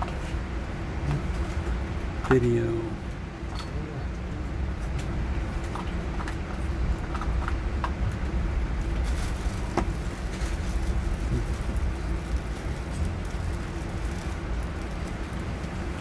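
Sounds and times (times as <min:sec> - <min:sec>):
train running low rumble: 0:00.0 - 0:16.0.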